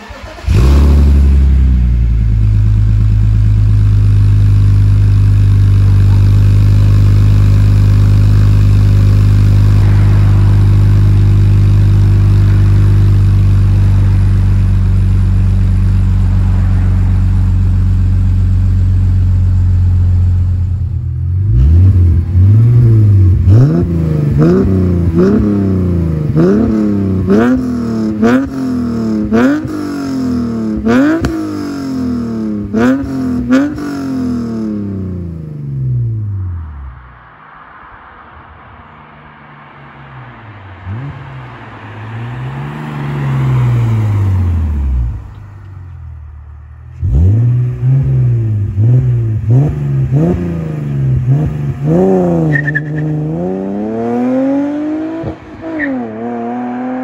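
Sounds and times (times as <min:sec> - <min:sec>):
car engine idling: 0:00.0 - 0:37.3, 0:38.7 - 0:55.8
car engine revving: 0:00.0 - 0:57.0.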